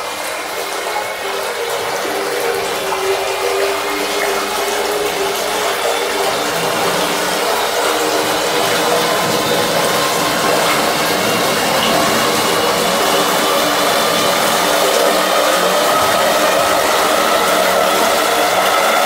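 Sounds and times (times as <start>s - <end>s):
liquid churning and splashing: 0.0s - 19.0s
steady machine hum: 0.0s - 19.0s.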